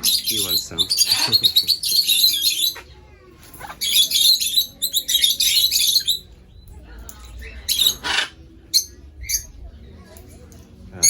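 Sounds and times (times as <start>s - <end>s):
parrots chattering and chirping: 0.0s - 11.0s.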